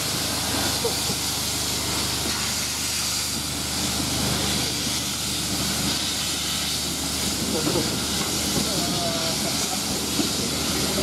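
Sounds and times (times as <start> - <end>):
steam hissing: 0.0 - 11.0
train rumble: 0.0 - 11.0.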